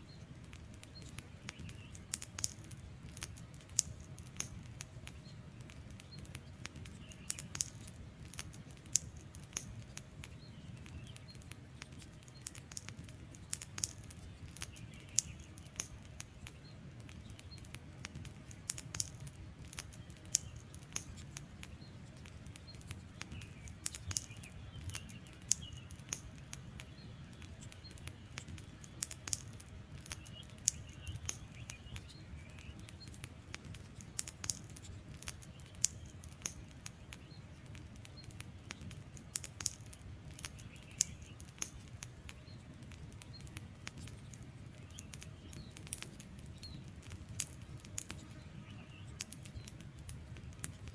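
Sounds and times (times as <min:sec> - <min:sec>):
fire popping: 0:00.0 - 0:50.9
rush of burning: 0:00.0 - 0:50.9
wood fire crackling: 0:00.0 - 0:50.9.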